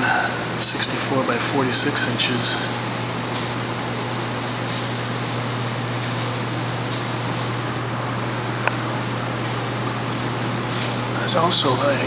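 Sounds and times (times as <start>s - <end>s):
air conditioner hiss and hum: 0.0s - 12.0s
thin high whine: 0.0s - 12.0s.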